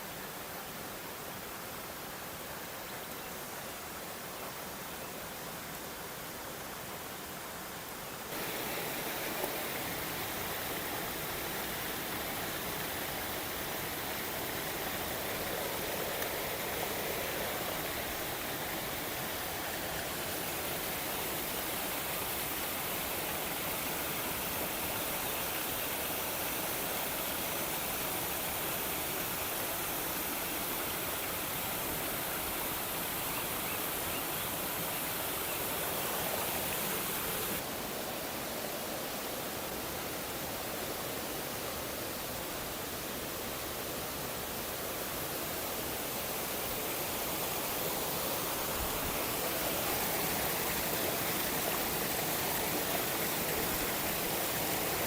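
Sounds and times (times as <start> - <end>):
waterfall rushing: 8.3 - 55.0.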